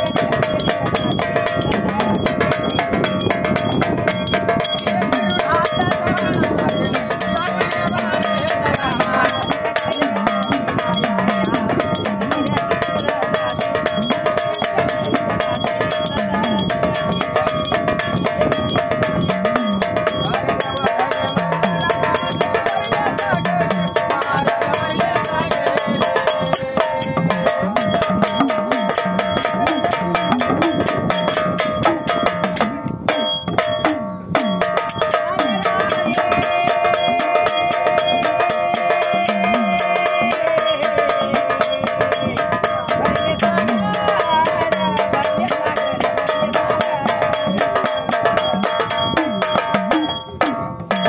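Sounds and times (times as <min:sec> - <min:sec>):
hand percussion beat: 0:00.0 - 0:51.0
small jingling bells: 0:00.0 - 0:51.0.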